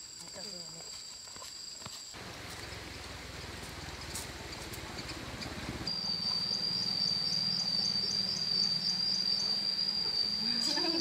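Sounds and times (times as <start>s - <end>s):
insect buzzing trill: 0.0s - 11.0s.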